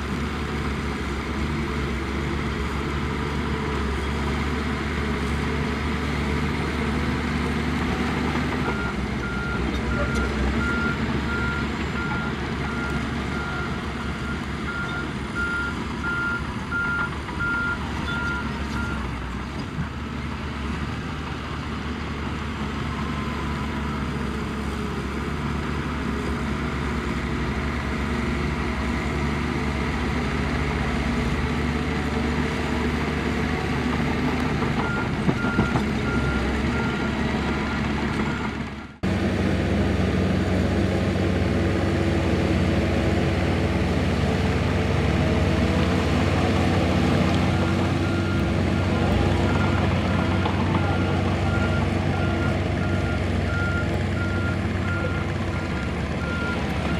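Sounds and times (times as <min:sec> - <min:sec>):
heavy machinery engines running: 0:00.0 - 0:56.9.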